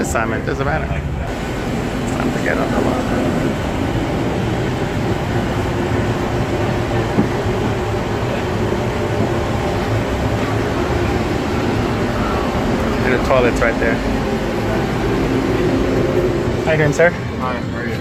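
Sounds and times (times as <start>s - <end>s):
machinery and ventilation rumble: 0.0s - 18.0s.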